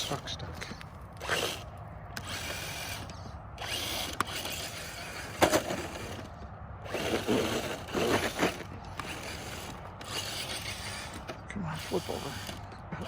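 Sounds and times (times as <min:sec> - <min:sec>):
electric motor revving: 0:00.0 - 0:13.0
tires grinding on icy snow: 0:00.0 - 0:13.0
tires rubbing on body: 0:00.0 - 0:13.0.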